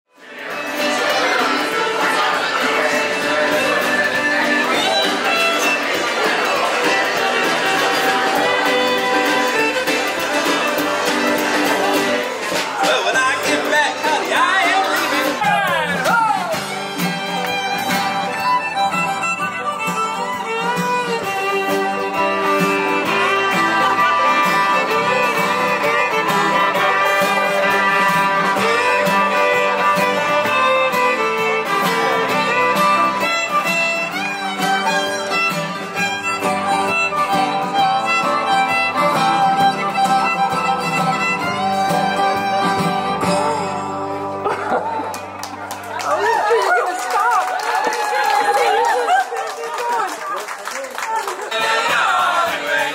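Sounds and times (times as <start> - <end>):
strummed acoustic guitar: 0.1 - 45.7
fiddle melody: 0.1 - 46.8.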